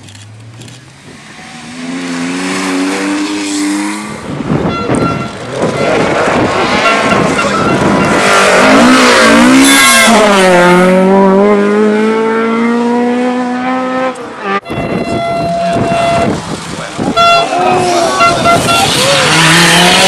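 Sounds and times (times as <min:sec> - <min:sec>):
rally car engine revving: 0:00.4 - 0:14.6, 0:15.3 - 0:20.0.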